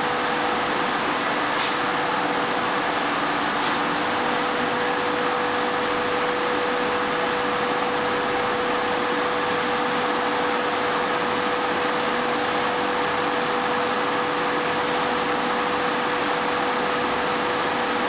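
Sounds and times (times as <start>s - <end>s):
machine hum with high tone: 0.0s - 18.0s.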